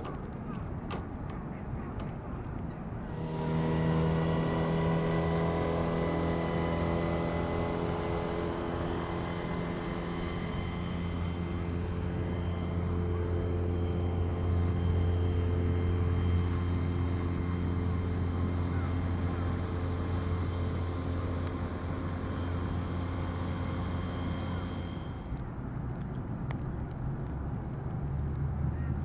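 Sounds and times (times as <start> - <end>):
turboprop engines humming: 0.0 - 29.0.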